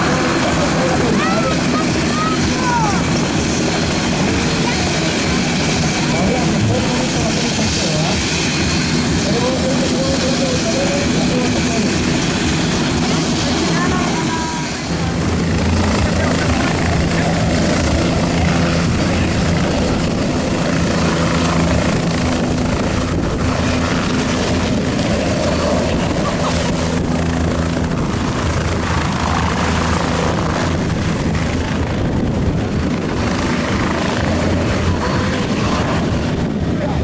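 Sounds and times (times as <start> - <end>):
helicopter engine and rotor: 0.0 - 37.0.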